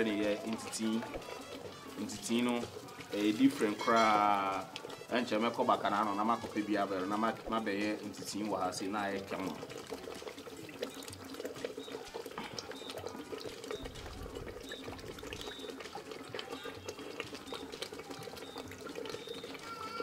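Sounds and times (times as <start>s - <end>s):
water splashing in plastic bowl: 0.0s - 20.0s.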